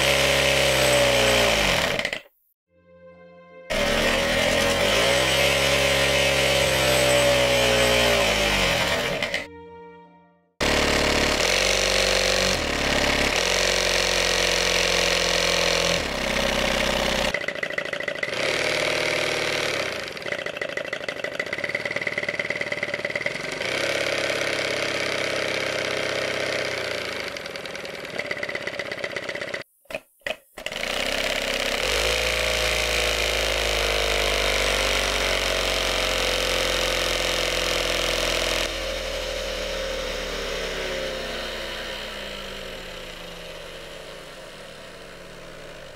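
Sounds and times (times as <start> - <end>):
model engine running on air: 0.0 - 2.3, 3.7 - 9.5, 10.6 - 45.9.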